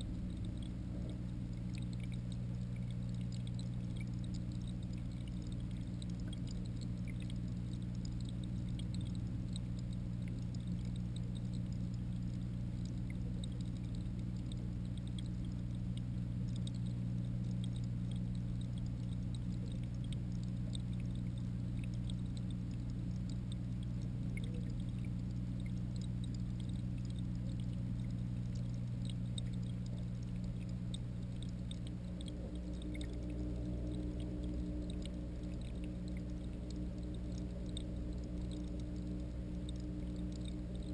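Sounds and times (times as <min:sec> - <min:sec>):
aquarium water pump hum: 0:00.0 - 0:40.9
faint ticks and crackles: 0:00.0 - 0:40.9.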